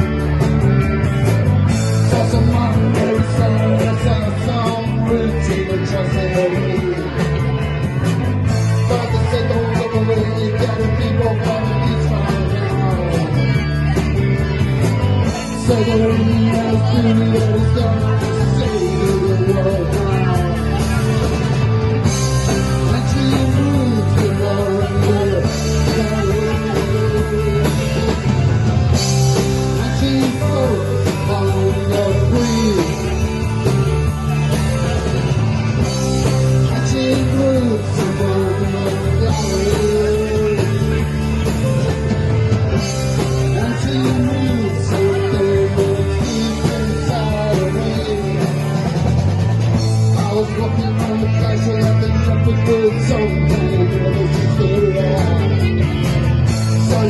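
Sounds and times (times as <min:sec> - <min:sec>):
bass guitar: 0:00.0 - 0:57.0
drums: 0:00.0 - 0:57.0
electric guitar: 0:00.0 - 0:57.0.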